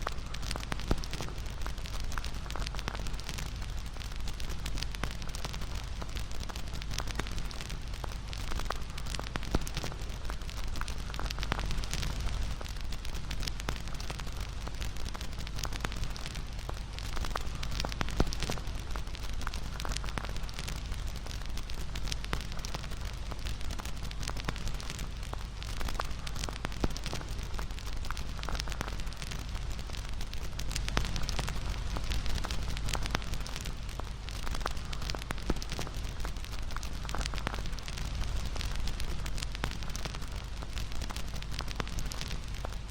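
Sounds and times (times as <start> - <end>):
fire crackling and popping: 0.0 - 42.9
campfire flames rushing: 6.7 - 18.6, 19.2 - 42.9.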